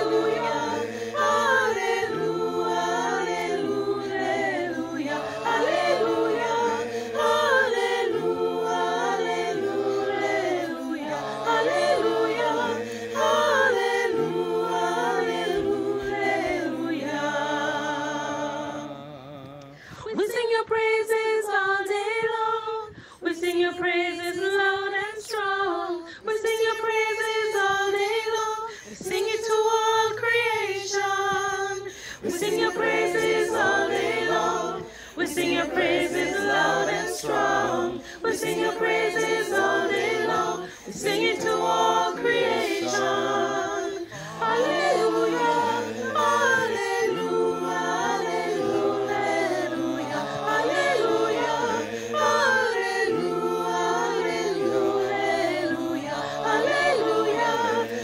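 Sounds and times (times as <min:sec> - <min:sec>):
men's voices singing: 0:00.0 - 0:19.8, 0:30.0 - 0:58.0
women's voices singing: 0:00.0 - 0:58.0.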